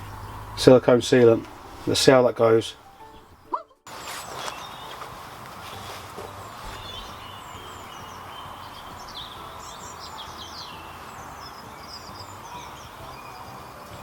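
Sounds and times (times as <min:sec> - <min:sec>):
outdoor background hiss: 0:00.0 - 0:14.0
small birds chirping and trilling: 0:00.0 - 0:14.0.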